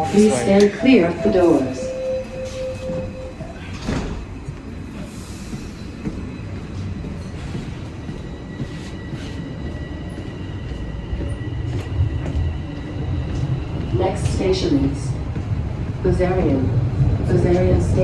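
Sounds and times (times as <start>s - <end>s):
subway train wheels rumbling: 0.0s - 18.0s.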